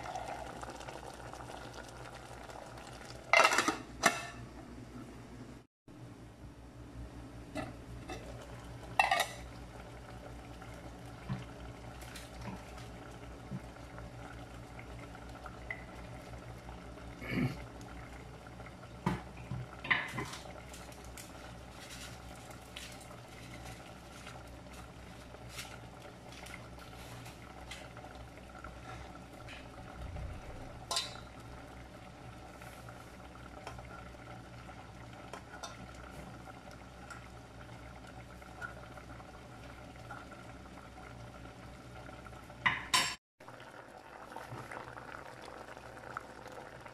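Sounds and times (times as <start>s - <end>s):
sauce bubbling in a pot: 0.0s - 3.4s, 7.6s - 42.8s, 43.4s - 46.9s.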